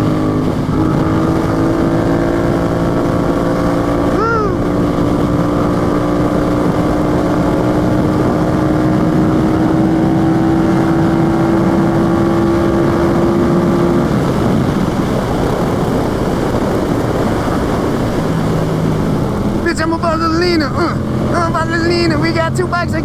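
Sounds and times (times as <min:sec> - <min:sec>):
motorcycle engine pulling: 0:00.0 - 0:23.0
wind rush on microphone: 0:00.0 - 0:23.0.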